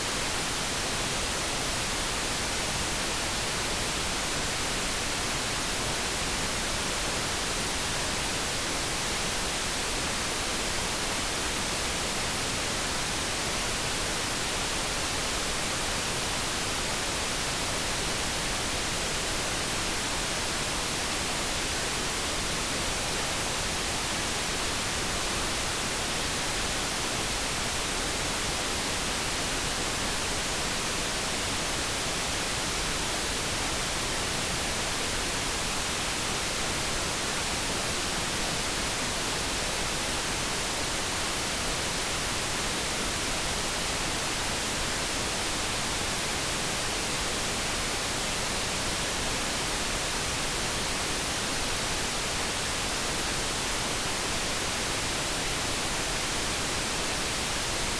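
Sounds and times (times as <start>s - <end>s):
steady synthetic noise hiss: 0.0s - 57.9s.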